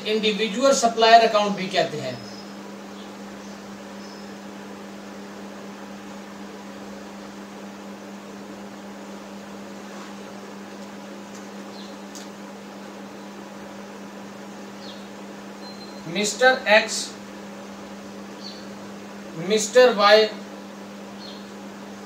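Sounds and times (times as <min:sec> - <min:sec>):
electrical appliance hum: 0:00.0 - 0:22.0.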